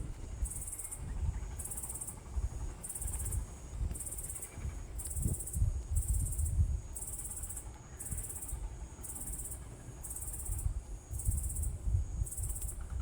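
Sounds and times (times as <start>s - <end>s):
cricket trilling: 0.0s - 13.0s.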